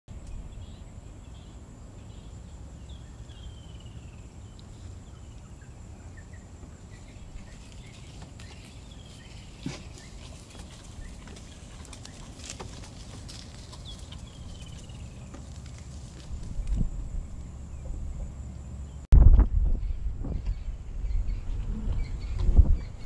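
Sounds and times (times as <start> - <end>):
bird chirping: 0.1 - 23.0.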